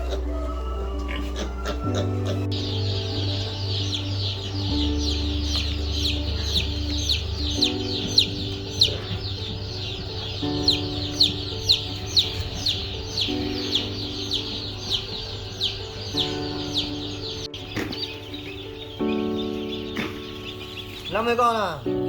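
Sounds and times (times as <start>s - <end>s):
slow sustained music chords: 0.0s - 22.0s
young chickens peeping: 0.0s - 22.0s.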